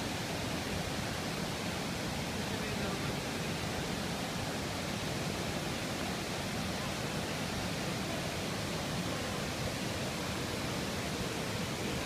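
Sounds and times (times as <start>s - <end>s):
water rushing over cascades: 0.0s - 12.0s.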